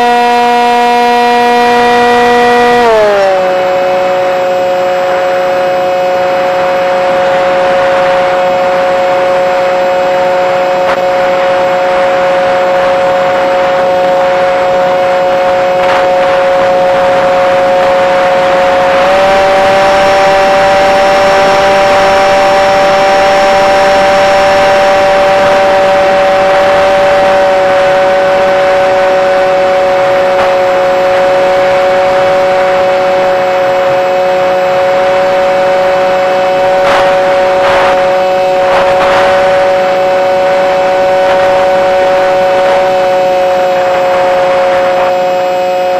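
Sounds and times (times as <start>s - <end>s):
model airplane motor whine: 0.0s - 45.9s.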